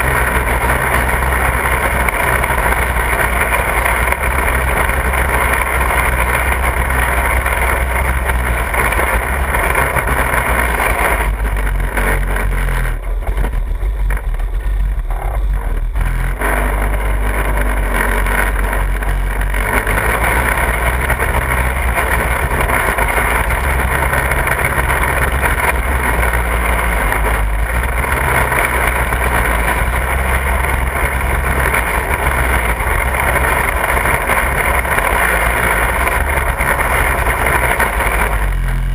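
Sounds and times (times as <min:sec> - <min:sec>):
small buggy engine running: 0:00.0 - 0:38.9.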